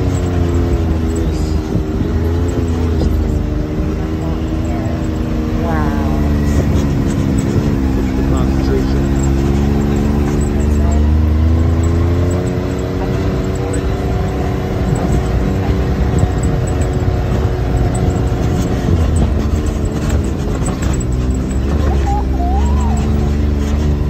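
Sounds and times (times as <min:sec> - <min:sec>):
low rumble of ride on dirt: 0:00.0 - 0:24.0
utility vehicle engine running: 0:00.0 - 0:24.0.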